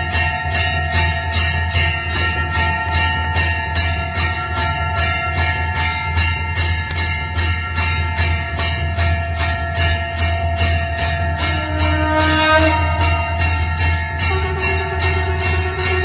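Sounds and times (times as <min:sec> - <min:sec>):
temple bell ringing: 0:00.0 - 0:16.0.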